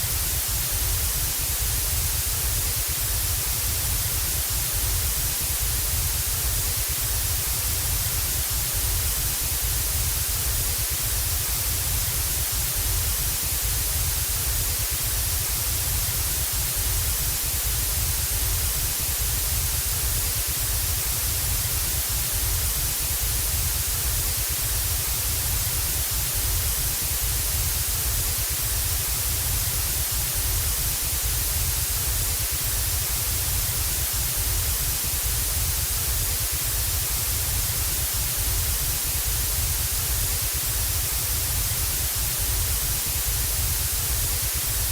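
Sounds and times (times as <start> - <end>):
television static hiss: 0.0 - 44.9.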